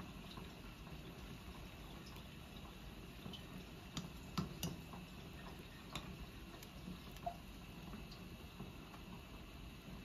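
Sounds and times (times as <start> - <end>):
water boiling in pot: 0.0 - 10.0.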